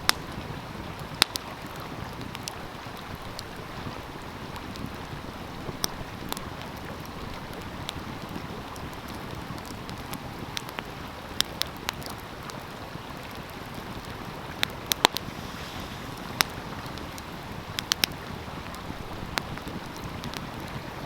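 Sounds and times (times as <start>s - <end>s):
flowing stream: 0.0s - 21.0s
wood fire crackling and popping: 0.0s - 21.0s.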